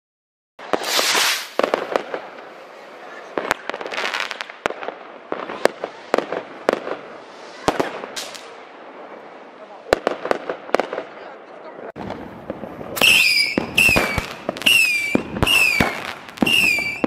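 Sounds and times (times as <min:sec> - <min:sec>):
firecrackers crackling: 0:00.6 - 0:17.0
fireworks bangs: 0:00.6 - 0:17.0.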